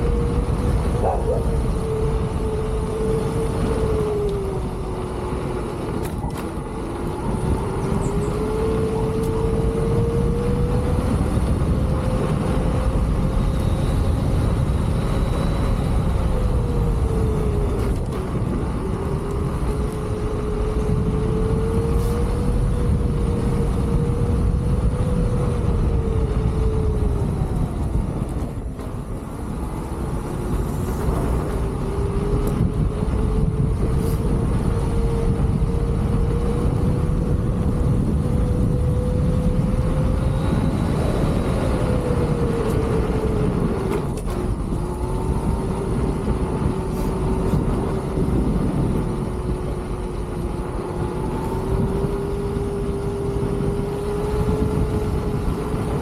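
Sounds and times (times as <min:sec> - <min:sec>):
electric unicycle motor whining: 0:00.0 - 0:56.0
wind and road noise rumble: 0:00.0 - 0:56.0.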